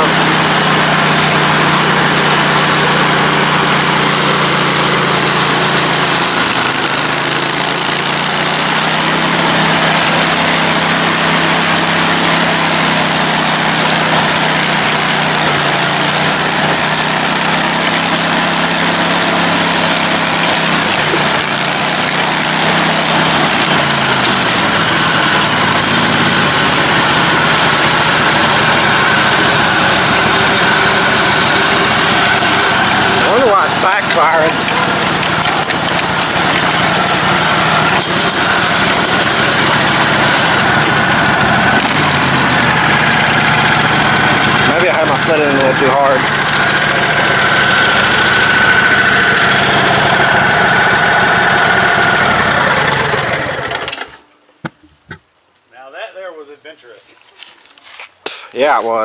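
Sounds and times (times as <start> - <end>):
riding lawn mower engine running: 0.0 - 55.3.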